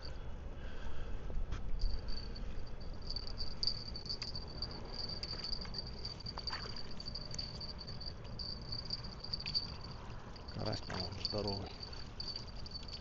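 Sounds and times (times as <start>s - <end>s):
insect chirring: 2.3s - 13.0s.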